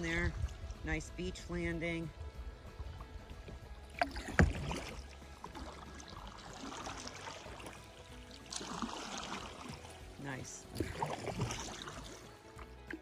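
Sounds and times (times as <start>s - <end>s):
paddle blades splashing: 0.0s - 13.0s.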